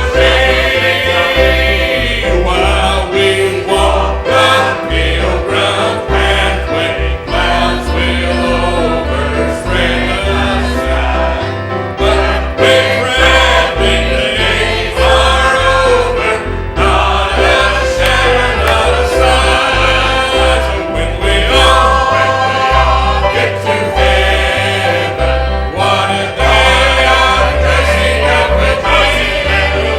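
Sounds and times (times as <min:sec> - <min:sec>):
church choir singing a hymn: 0:00.0 - 0:29.9
instrumental accompaniment: 0:00.0 - 0:29.9.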